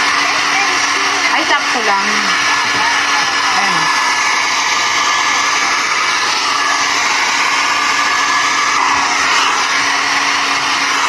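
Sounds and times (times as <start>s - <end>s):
hair dryer blowing air: 0.0s - 11.0s.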